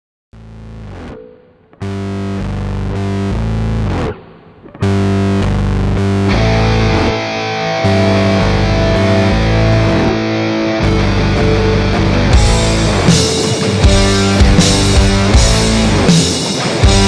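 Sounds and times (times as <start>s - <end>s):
rock music with distorted guitar: 0.4s - 17.0s.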